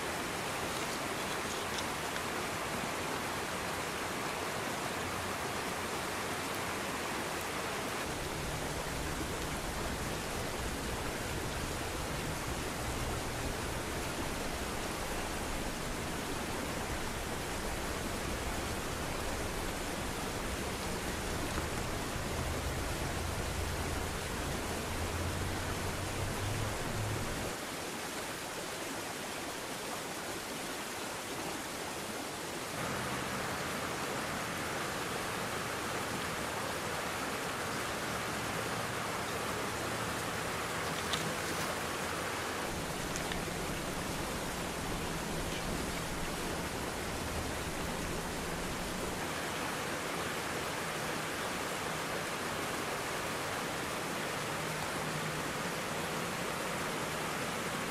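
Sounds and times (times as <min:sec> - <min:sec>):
creek water rushing: 0:00.0 - 0:57.9.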